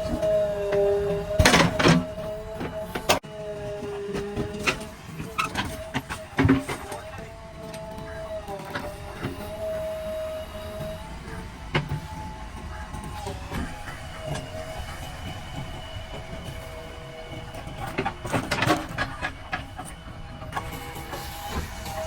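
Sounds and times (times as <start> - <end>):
diesel engine running with whine: 0.0 - 22.0.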